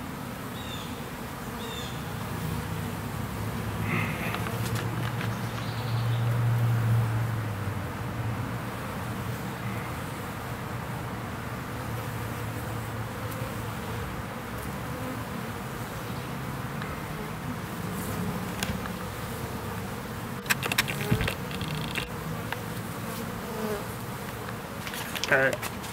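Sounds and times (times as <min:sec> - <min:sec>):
honey bees buzzing: 0:00.0 - 0:25.9.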